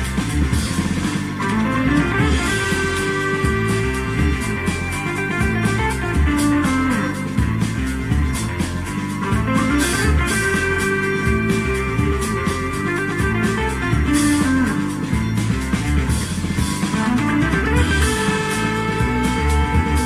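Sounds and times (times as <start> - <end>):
music with guitar and drums: 0.0 - 20.0.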